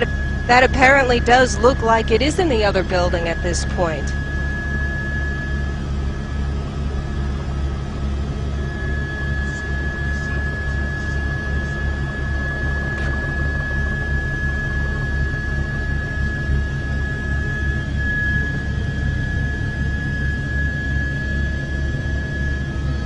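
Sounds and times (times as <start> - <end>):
helicopter rotor and engine drone: 0.0 - 23.0
thin high whine: 0.0 - 23.0.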